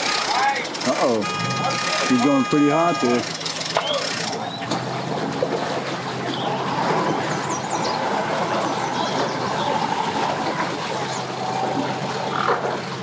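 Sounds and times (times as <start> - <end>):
outboard motor drone: 0.0 - 13.0
propeller churning water: 0.0 - 13.0.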